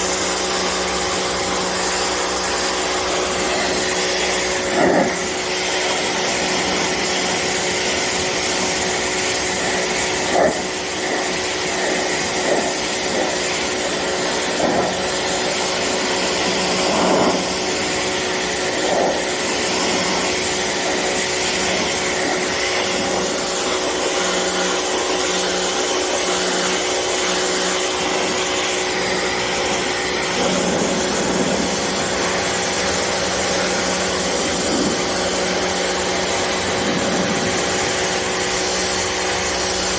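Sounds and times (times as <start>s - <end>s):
pump motor humming: 0.0s - 39.9s
water jet hissing: 0.0s - 39.9s.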